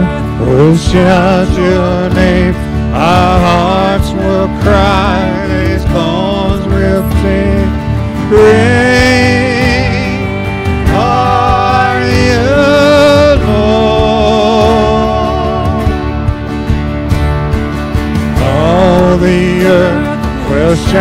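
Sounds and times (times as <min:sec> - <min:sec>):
worship band with electric guitar: 0:00.0 - 0:21.0.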